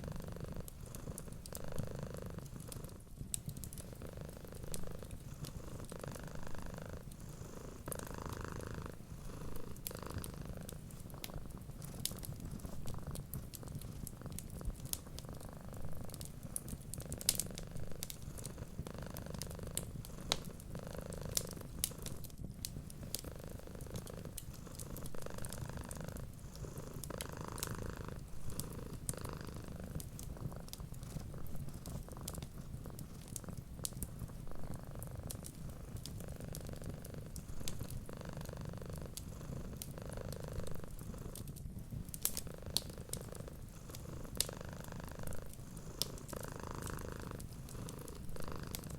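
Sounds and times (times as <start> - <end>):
cat purring: 0.0 - 48.9
wood fire crackling: 2.4 - 7.2, 7.9 - 48.9.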